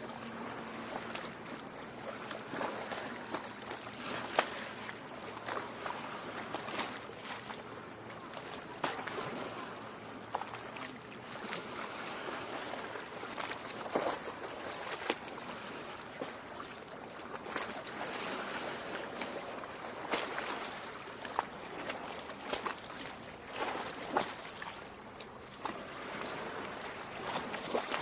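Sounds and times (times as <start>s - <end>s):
small waves lapping at shore: 0.0s - 28.0s.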